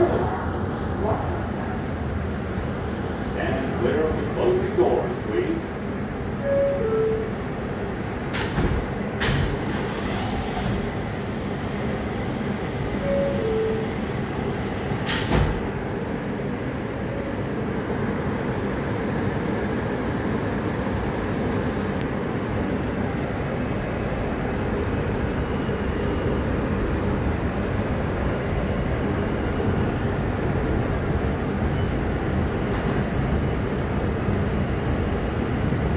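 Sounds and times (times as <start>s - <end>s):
subway car running noise: 0.0s - 35.9s.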